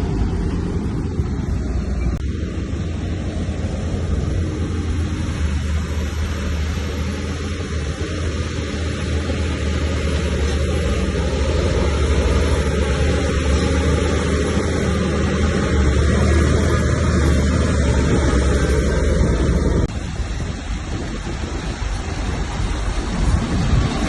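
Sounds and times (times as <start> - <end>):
heavy machinery diesel engine rumble: 0.0 - 24.0.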